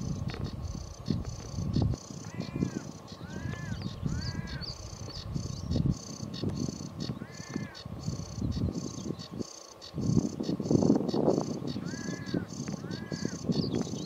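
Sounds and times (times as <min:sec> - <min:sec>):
gusting wind rumble: 0:00.0 - 0:14.0
harsh bird calls: 0:00.0 - 0:14.0
warbler chattering song: 0:00.0 - 0:14.0.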